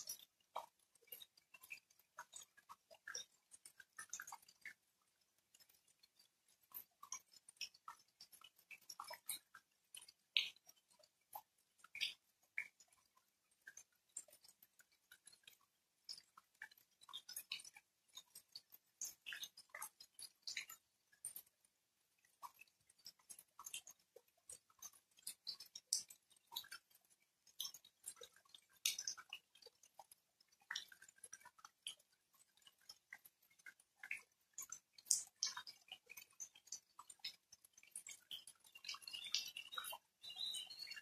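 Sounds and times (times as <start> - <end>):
raindrops ticking: 0.0 - 41.0.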